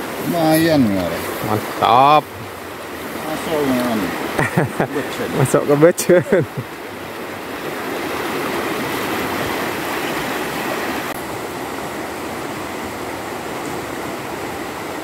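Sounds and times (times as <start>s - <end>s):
river water rushing over shallows: 0.0s - 15.0s.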